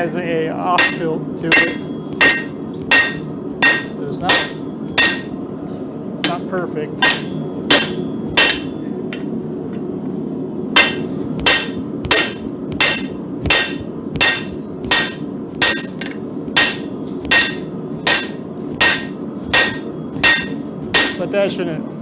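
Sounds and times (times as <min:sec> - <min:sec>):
hammer striking steel on anvil: 0:00.8 - 0:05.4, 0:06.2 - 0:09.4, 0:10.8 - 0:21.4.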